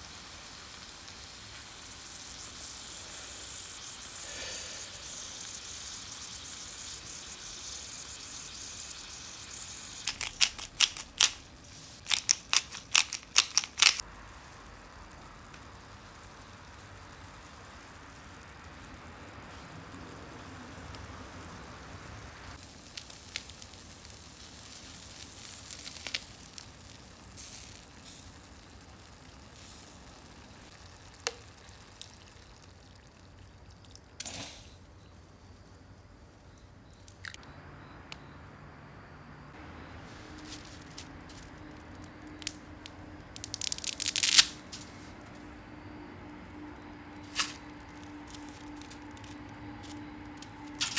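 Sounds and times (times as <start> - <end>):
food sizzling on charcoal grill: 0.0 - 37.4, 39.5 - 50.9.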